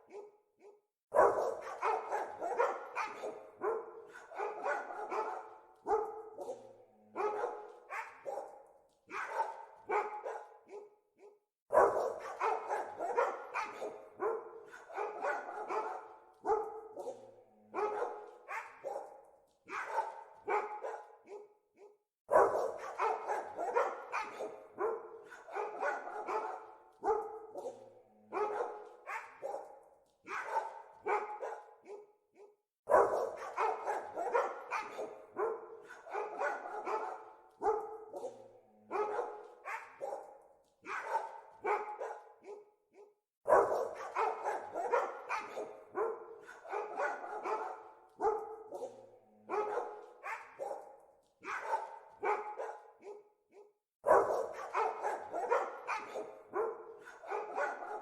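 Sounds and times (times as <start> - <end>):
dogs barking: 0.0 - 58.0.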